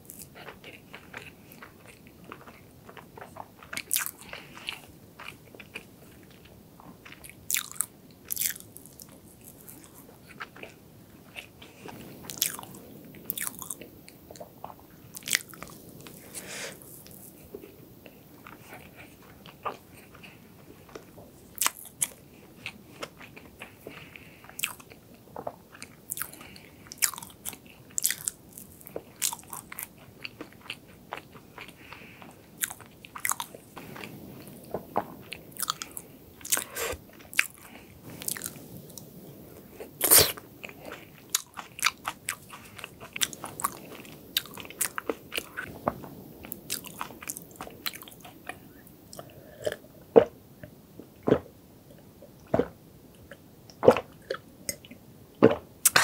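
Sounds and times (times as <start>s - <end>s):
chewing and crunching cake: 0.0s - 56.0s.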